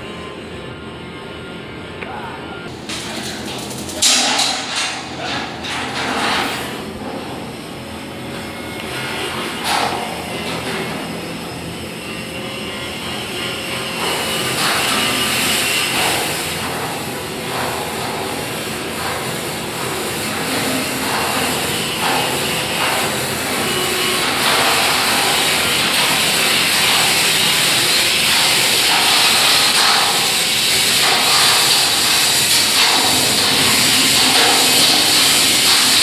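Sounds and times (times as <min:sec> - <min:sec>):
machine noise with strong hiss: 0:02.5 - 0:36.0.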